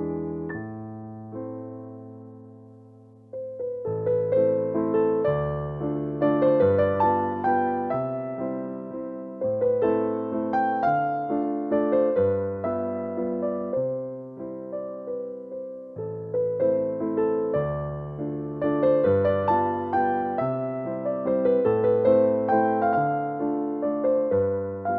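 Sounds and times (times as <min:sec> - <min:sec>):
gentle piano piece: 0:00.0 - 0:24.9.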